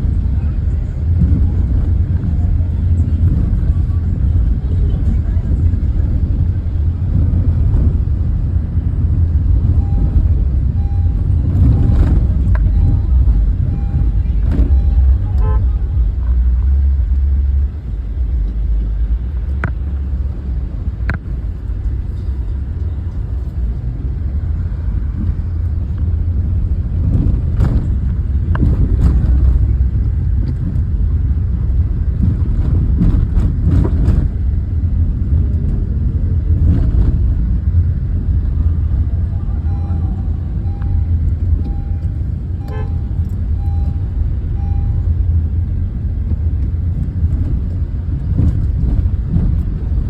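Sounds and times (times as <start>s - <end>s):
tractor engines rumbling: 0.0s - 50.0s.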